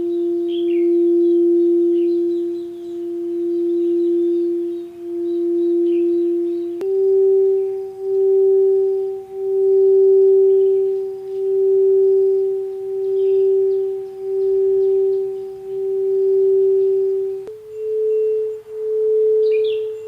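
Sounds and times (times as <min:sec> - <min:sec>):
faint bird chirps: 0:00.0 - 0:20.0
singing bowl tone: 0:00.0 - 0:20.0.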